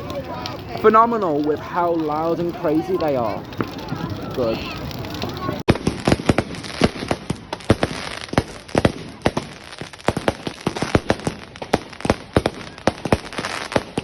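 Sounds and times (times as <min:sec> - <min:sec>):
fireworks bangs and cracks: 0:00.0 - 0:14.0.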